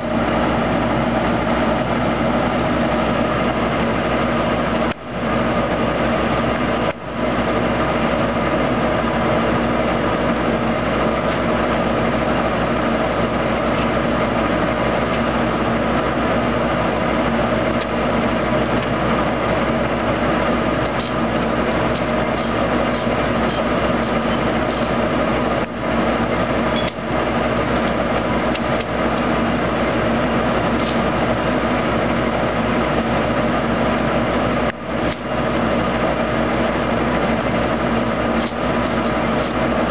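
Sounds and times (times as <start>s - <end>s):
circular sawmill running: 0.0s - 39.9s
tractor engine running: 0.0s - 39.9s.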